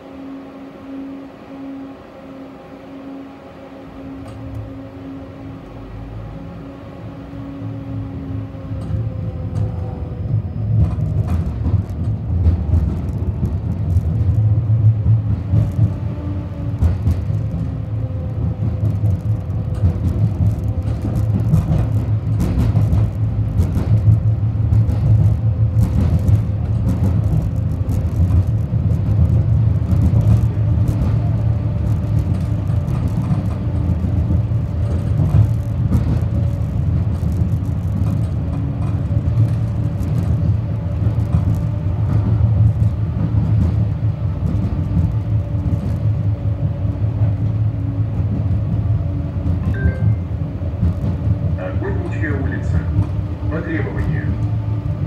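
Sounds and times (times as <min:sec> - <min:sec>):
tram wheels rumbling on rails: 0:00.0 - 0:55.0.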